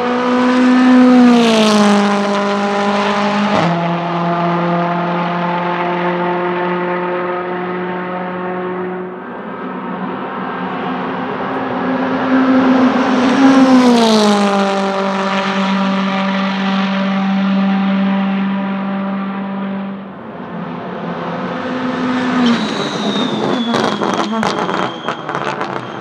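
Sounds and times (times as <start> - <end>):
race car passing at high revs: 0.0 - 26.0.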